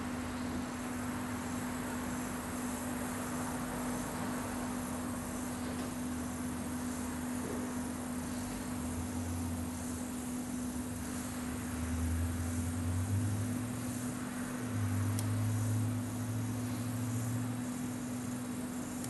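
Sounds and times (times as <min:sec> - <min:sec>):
steady low hum: 0:00.0 - 0:19.0
tarantula stridulating hiss: 0:00.0 - 0:19.0.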